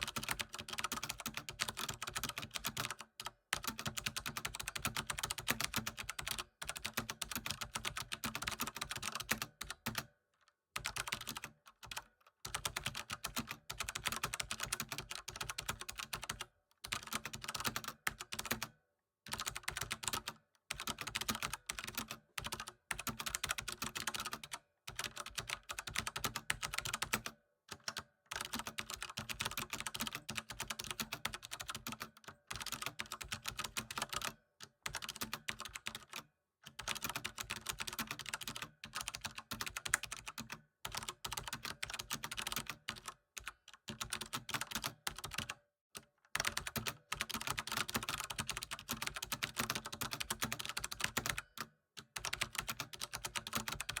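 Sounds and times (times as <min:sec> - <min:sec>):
keyboard typing: 0:00.0 - 0:10.1, 0:10.8 - 0:18.7, 0:19.3 - 0:36.2, 0:36.8 - 0:45.6, 0:46.3 - 0:54.0.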